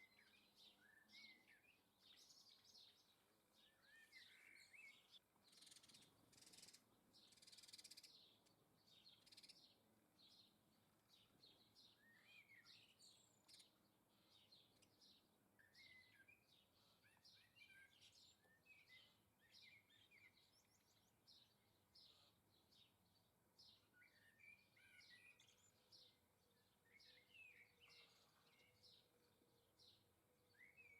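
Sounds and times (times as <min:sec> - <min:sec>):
faint songbirds chirping: 0:00.0 - 0:30.9.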